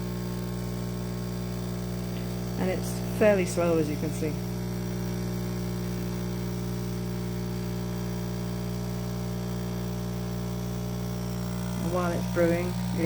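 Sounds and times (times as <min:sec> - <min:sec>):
coffee machine pump humming: 0:00.0 - 0:13.0.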